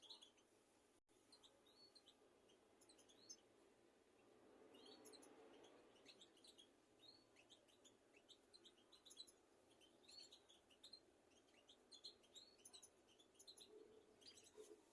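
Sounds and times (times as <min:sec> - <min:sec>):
faint birds chirping: 0:00.0 - 0:14.9.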